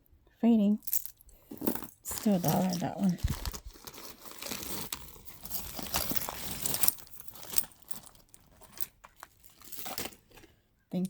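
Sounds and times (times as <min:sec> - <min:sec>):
metal jewelry clicking and clinking: 0:00.8 - 0:03.3, 0:03.9 - 0:10.4
packaging rustling and crinkling: 0:01.4 - 0:10.6.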